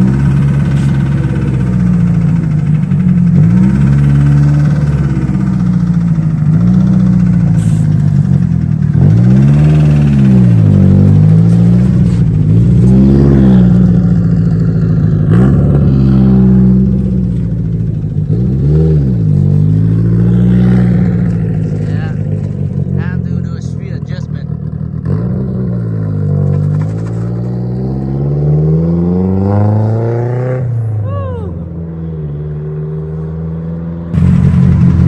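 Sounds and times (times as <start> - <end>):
car engine idling: 0.0 - 28.3, 34.2 - 35.0
car engine revving: 0.0 - 31.2, 32.4 - 35.0.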